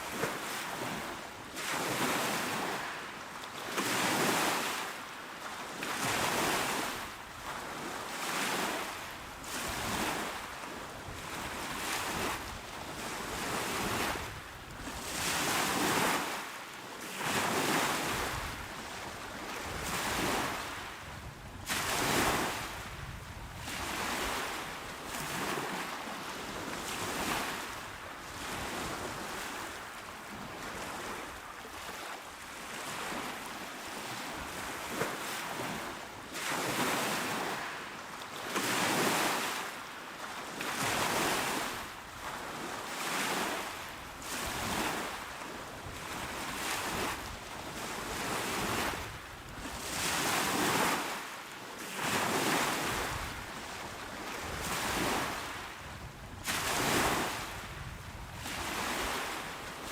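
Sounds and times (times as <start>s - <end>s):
small waves washing onto shore: 0.0s - 59.9s.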